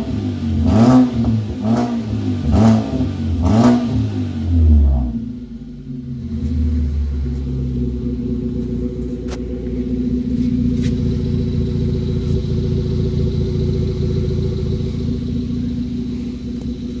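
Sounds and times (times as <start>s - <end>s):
loud pulsing car exhaust: 0.0s - 17.0s.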